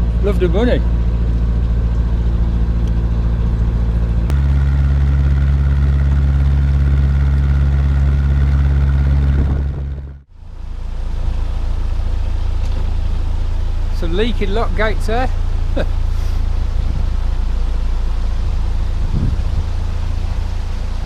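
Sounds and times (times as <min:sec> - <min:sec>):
boat diesel engine running: 0:00.0 - 0:21.0.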